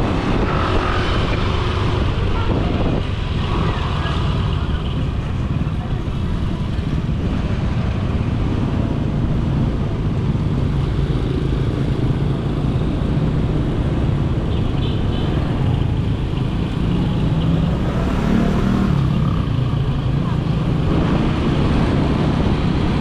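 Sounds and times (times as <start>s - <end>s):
motorcycle engine cruising: 0.0s - 23.0s
road and wind noise: 0.0s - 23.0s.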